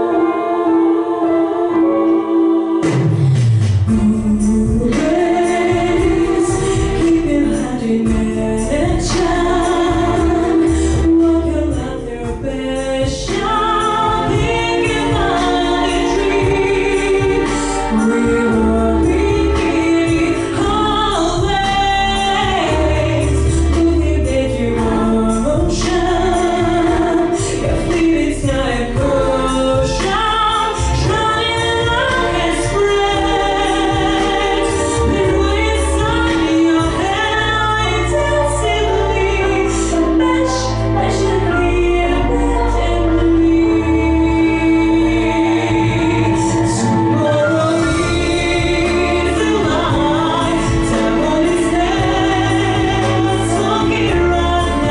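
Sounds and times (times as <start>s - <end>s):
instrumental backing track: 0.0s - 54.9s
person singing pop song: 0.0s - 54.9s.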